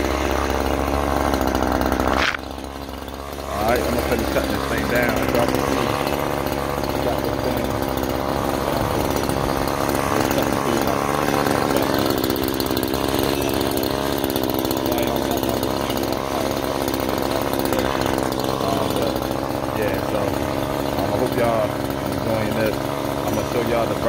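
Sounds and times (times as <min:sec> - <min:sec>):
electric chainsaw cutting branches: 0:00.0 - 0:24.0.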